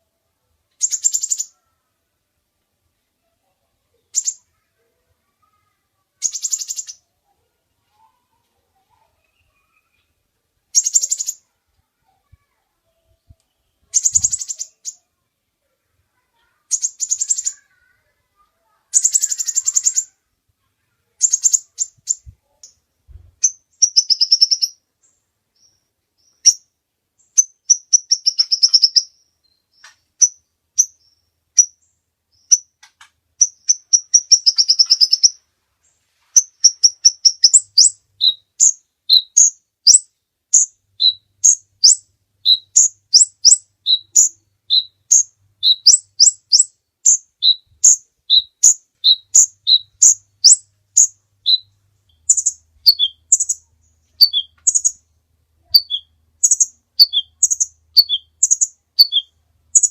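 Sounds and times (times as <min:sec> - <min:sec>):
sunbird singing: 0:00.7 - 0:01.8, 0:03.9 - 0:08.2, 0:08.8 - 0:15.2, 0:16.2 - 0:20.2, 0:21.1 - 0:22.8, 0:23.4 - 0:32.8, 0:33.4 - 0:35.4, 0:36.4 - 0:59.9.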